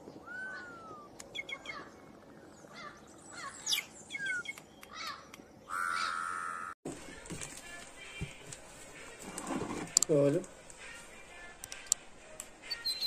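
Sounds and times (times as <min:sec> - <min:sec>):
songbirds singing and chirping: 0:00.0 - 0:06.8, 0:07.5 - 0:13.0.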